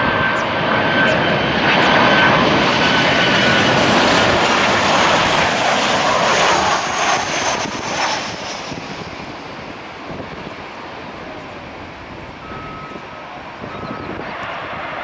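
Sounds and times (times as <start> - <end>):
jet aircraft passing low: 0.0 - 15.0.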